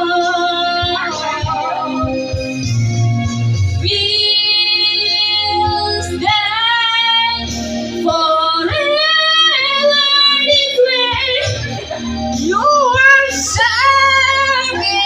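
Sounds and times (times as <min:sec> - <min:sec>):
backing track music: 0:00.0 - 0:15.0.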